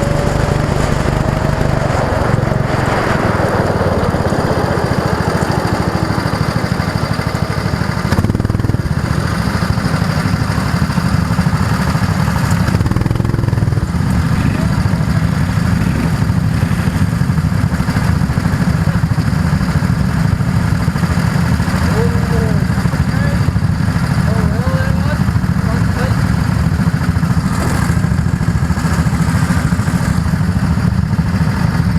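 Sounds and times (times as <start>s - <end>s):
go-kart engine running: 0.0s - 31.9s.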